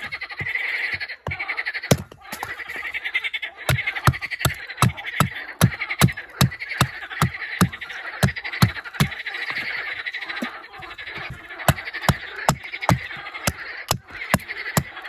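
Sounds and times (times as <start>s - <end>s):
hatchet chopping wood: 0.0s - 2.6s, 3.7s - 9.6s, 10.9s - 15.0s
frogs croaking: 0.0s - 15.0s.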